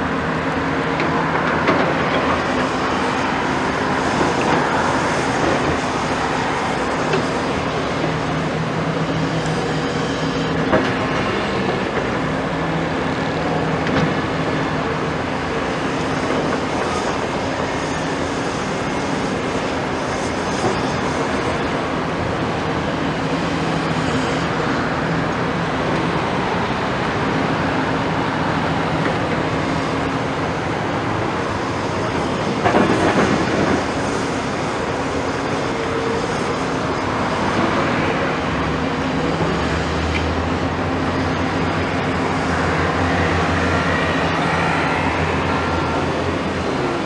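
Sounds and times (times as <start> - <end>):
excavators working: 0.0 - 47.0.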